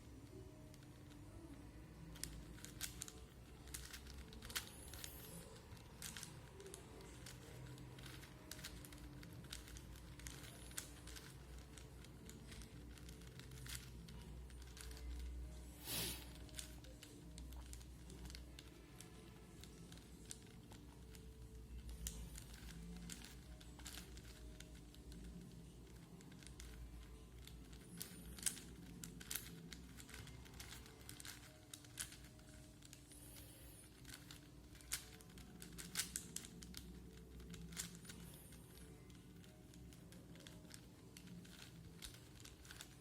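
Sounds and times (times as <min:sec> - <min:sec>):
puzzle cube layers clicking: 0:00.2 - 0:43.0.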